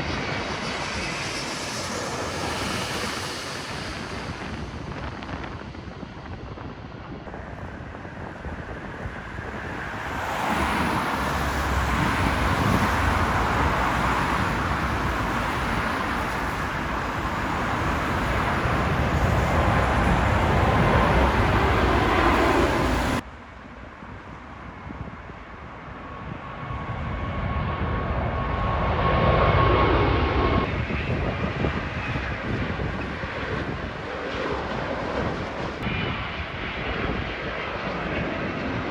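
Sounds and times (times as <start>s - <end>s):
high engine whine: 0.0s - 38.9s
jet airliner engines rushing past: 0.0s - 38.9s.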